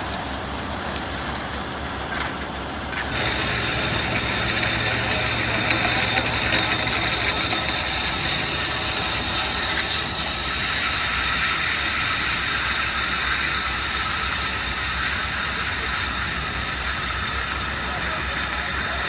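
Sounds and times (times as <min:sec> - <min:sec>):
steady hiss: 0:00.0 - 0:19.0
truck engine rumble: 0:00.0 - 0:19.0.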